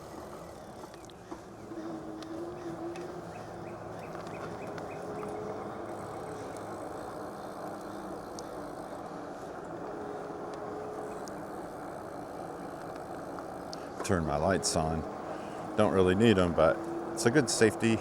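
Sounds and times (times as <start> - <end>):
bicycle tyre noise: 0.0 - 18.0.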